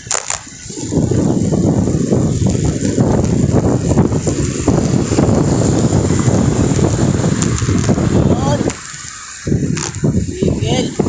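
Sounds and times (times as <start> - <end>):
road and traffic noise: 0.0 - 11.0
wind buffeting microphone: 0.0 - 11.0.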